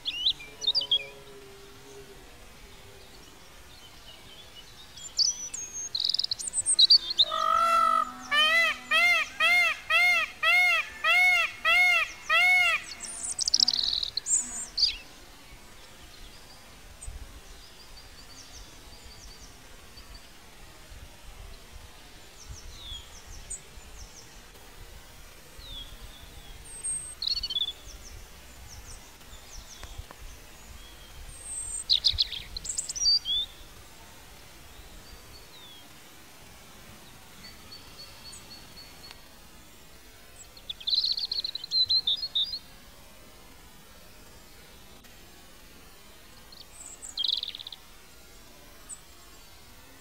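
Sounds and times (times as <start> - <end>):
birds chirping: 0.0 - 20.6, 25.5 - 43.0, 45.9 - 49.9
faint outdoor hiss: 0.0 - 50.0.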